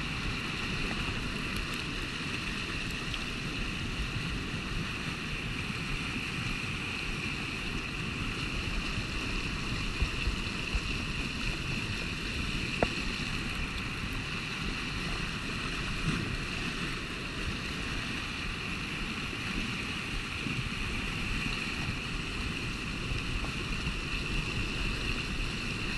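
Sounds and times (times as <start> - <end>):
river rushing through rapids: 0.0 - 25.9.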